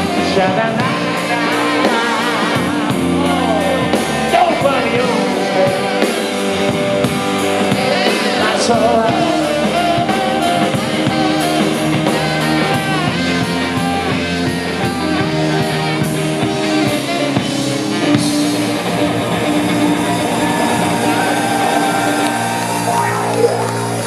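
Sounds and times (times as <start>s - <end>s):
bass guitar: 0.0s - 24.0s
drum kit: 0.0s - 24.0s
electric guitar: 0.0s - 24.0s.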